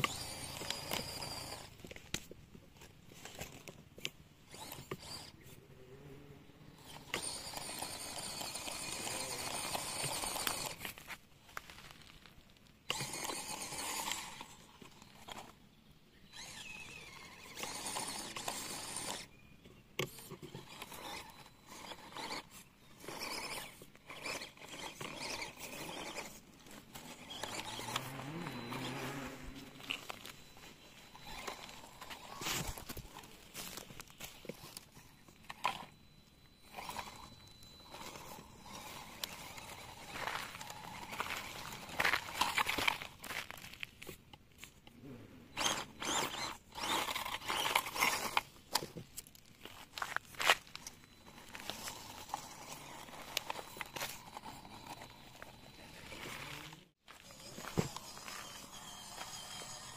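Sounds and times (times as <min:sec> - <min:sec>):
small electric motor whining: 0:00.0 - 0:02.0, 0:02.8 - 0:11.7, 0:12.8 - 0:59.9.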